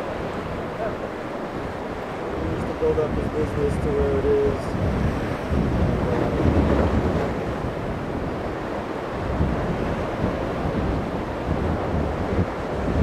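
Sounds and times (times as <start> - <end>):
surf breaking: 0.0 - 13.0
wind buffeting microphone: 0.0 - 13.0.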